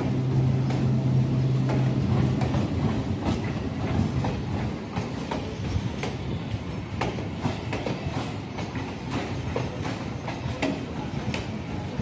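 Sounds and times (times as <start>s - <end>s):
train coaches rumbling: 0.0s - 12.0s
wheels clicking on track: 0.0s - 12.0s.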